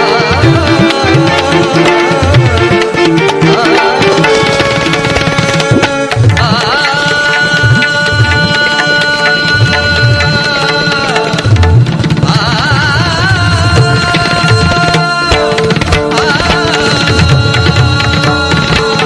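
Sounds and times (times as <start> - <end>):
tabla drumming: 0.0 - 19.0.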